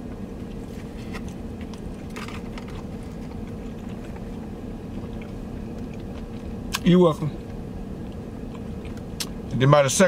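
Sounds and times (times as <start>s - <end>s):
man chewing quietly: 0.0s - 9.4s
car cabin hum: 0.0s - 10.0s.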